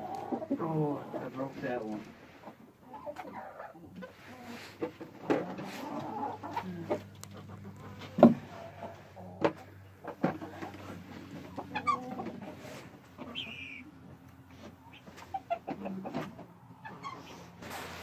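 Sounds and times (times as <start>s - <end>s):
hens clucking softly: 0.0s - 18.0s.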